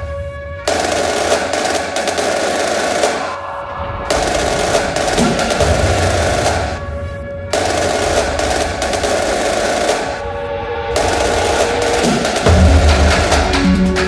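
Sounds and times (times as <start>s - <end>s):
snare drum rolls: 0.7s - 3.5s, 4.1s - 6.9s, 7.6s - 10.2s, 10.9s - 14.0s.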